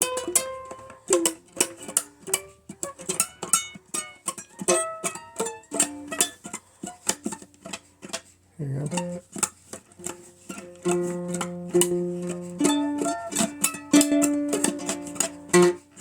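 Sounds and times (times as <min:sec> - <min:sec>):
ukulele blues tune: 0:00.0 - 0:16.0.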